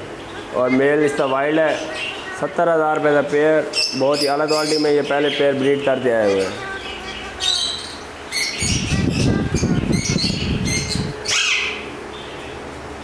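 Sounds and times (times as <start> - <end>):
parakeets squawking: 0.2 - 12.6.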